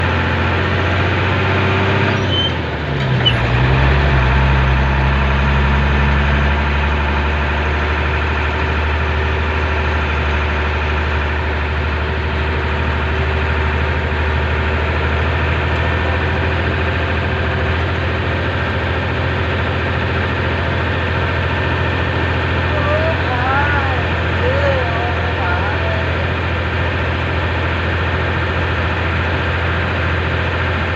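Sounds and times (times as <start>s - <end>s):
motorcycle engine running: 4.2s - 30.9s.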